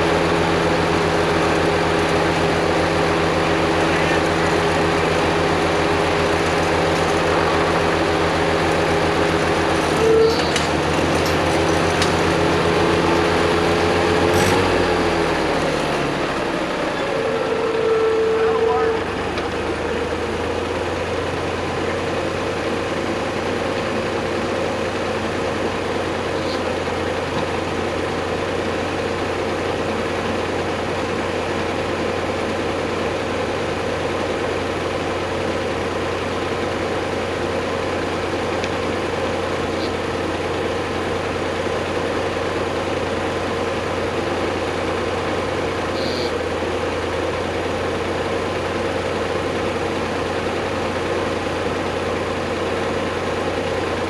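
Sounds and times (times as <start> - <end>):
heavy engine running: 0.0 - 54.0.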